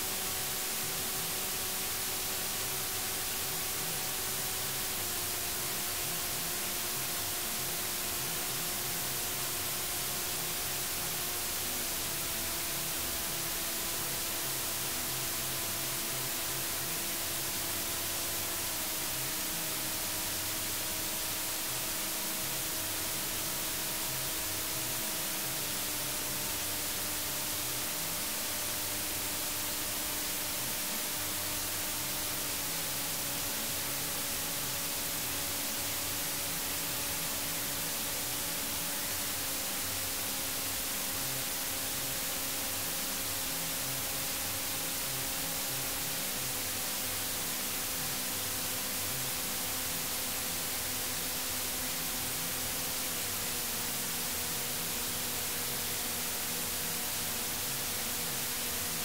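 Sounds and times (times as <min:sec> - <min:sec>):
electronic white noise hiss: 0:00.0 - 0:59.0.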